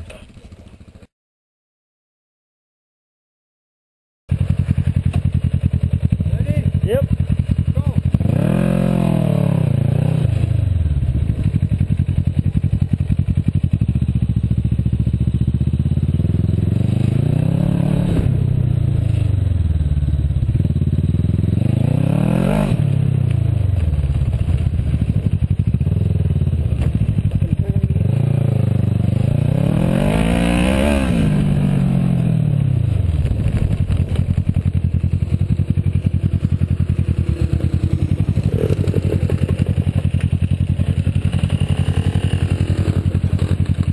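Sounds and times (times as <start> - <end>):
motorcycle engine revving: 4.3 - 43.9.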